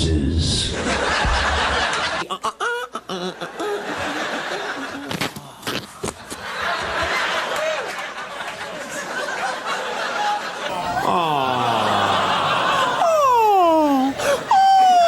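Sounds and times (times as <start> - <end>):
audience laughing: 0.8 - 5.2, 6.4 - 15.0.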